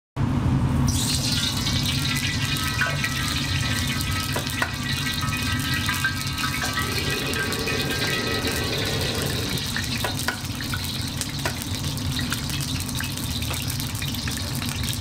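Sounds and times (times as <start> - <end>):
gas burner roaring: 0.2 - 15.0.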